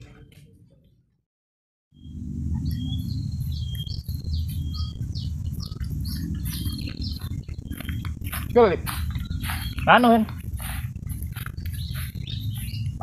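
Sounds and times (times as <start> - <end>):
birds chirping: 2.0 - 13.0
high insect drone: 2.0 - 13.0
steady low rumble: 2.0 - 13.0.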